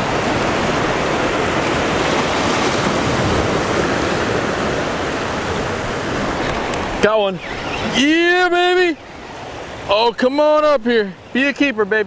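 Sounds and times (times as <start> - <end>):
surf breaking on rocky shore: 0.0 - 11.0.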